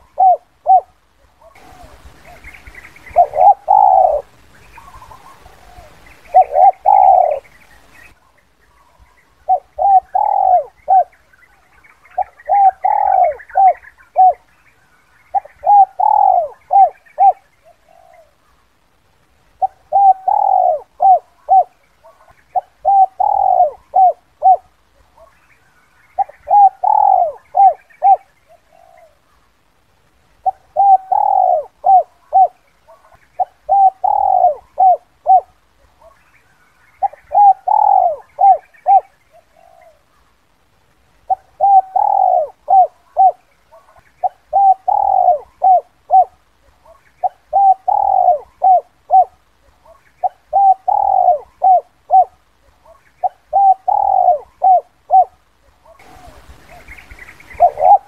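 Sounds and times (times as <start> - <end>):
dove cooing: 0.0 - 11.4, 12.0 - 14.5, 15.3 - 18.4, 19.6 - 25.4, 26.0 - 29.4, 30.4 - 36.3, 36.9 - 40.2, 41.2 - 58.0.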